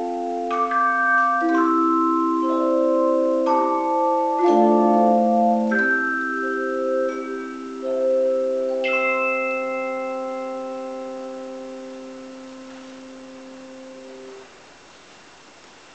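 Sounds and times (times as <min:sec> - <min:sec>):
handchimes ringing a chord: 0:00.0 - 0:14.5.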